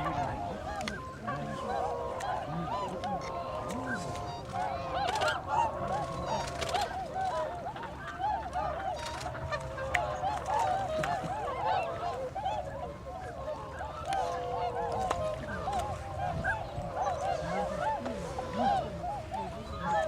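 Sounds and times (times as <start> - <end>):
flock of birds honking: 0.0 - 20.0.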